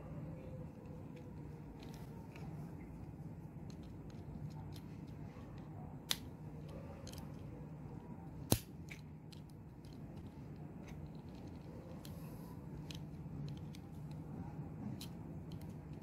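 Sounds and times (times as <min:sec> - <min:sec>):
small plastic and metal parts clicking: 0:00.4 - 0:03.0, 0:03.6 - 0:16.0.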